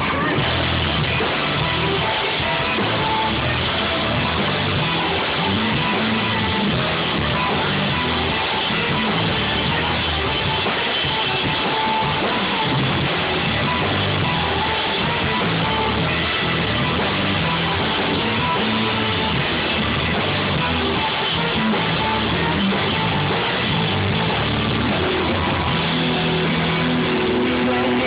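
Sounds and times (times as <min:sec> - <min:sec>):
drums: 0:00.0 - 0:28.0
electric bass: 0:00.0 - 0:28.0
keyboard: 0:00.0 - 0:28.0.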